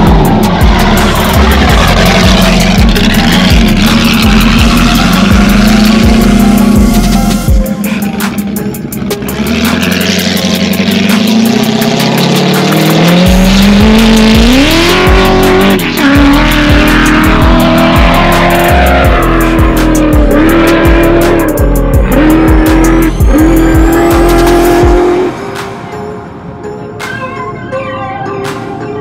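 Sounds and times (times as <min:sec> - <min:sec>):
engine revving hard: 0:00.0 - 0:07.6, 0:08.2 - 0:25.3
music with drum beat: 0:00.0 - 0:26.0.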